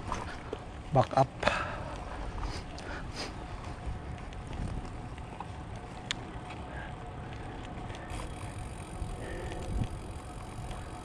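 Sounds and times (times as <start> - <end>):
wind rumbling on microphone: 2.0 - 11.0.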